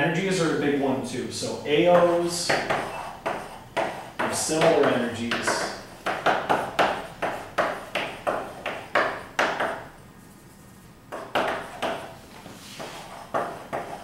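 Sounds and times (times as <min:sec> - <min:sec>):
chalk tapping and scraping: 0:01.7 - 0:14.0.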